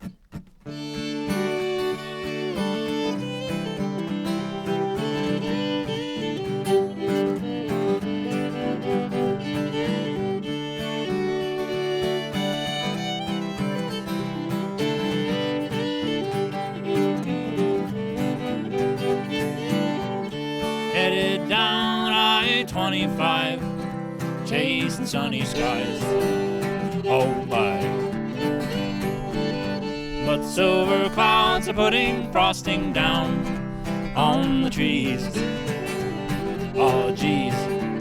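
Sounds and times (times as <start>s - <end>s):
fiddle melody: 0.0s - 38.0s
strummed acoustic guitar: 0.0s - 38.0s.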